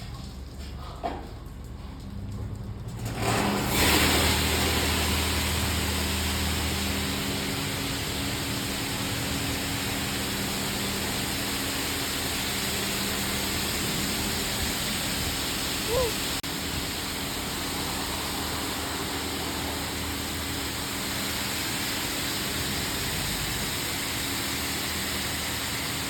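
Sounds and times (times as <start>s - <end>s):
low machine hum: 0.0s - 26.0s
loud spray hiss: 3.8s - 26.0s.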